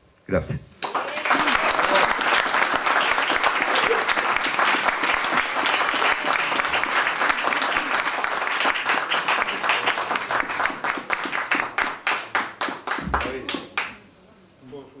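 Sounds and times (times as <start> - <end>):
audience applauding: 0.8 - 14.0.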